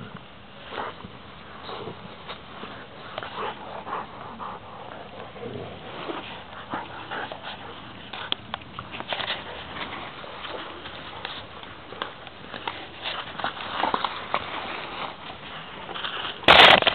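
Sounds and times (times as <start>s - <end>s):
dogs play-fighting: 0.6s - 16.4s.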